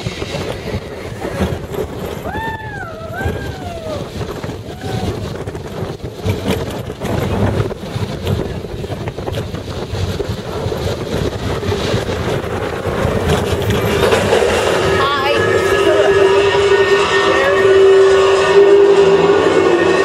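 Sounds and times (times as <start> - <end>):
wheels rumbling on rails: 0.0 - 20.0
wind buffeting microphone: 0.0 - 20.0.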